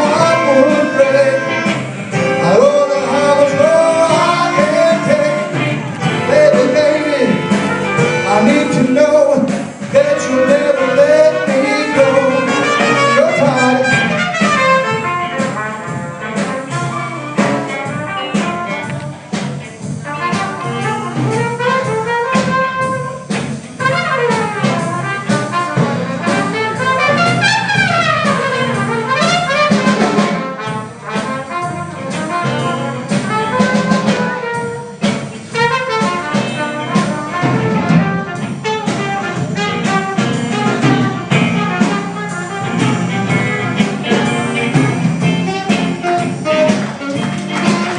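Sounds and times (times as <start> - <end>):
drum beat: 0.0 - 47.9
horns playing: 0.0 - 47.9.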